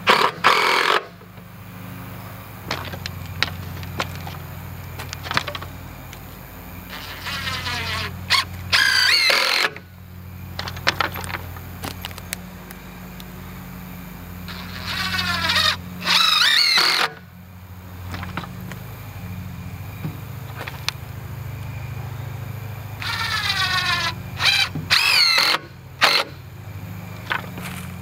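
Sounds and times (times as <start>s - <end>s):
engine idling: 0.0s - 28.0s
motor whine rising in pitch: 0.0s - 28.0s.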